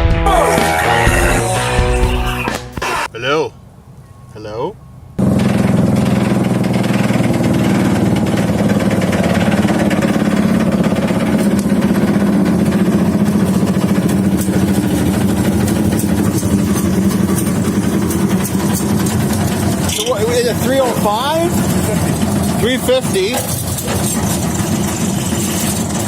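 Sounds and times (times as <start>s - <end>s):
engine idling: 5.1s - 26.0s.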